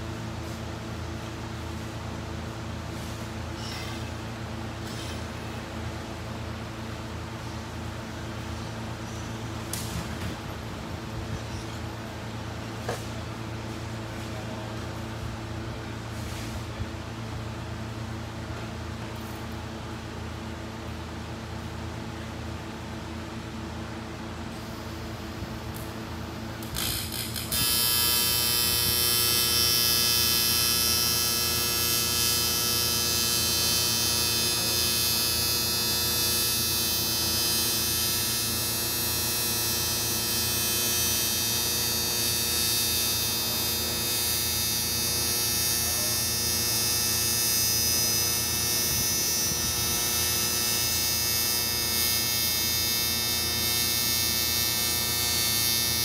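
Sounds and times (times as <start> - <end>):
motor humming with whine: 0.0 - 56.0.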